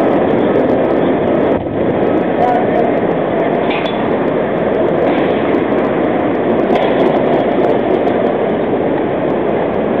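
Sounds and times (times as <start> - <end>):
cable car rolling on rails: 0.0 - 10.0.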